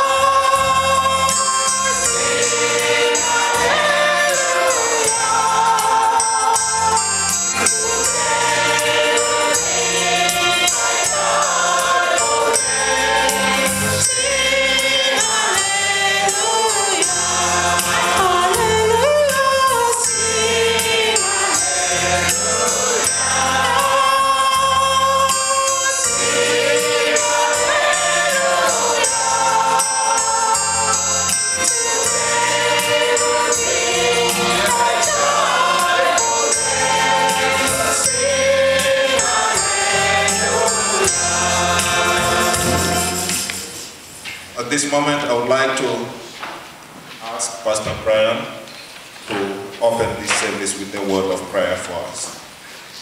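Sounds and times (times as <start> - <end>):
instruments playing: 0.0 - 45.6
gospel choir singing: 0.0 - 46.4.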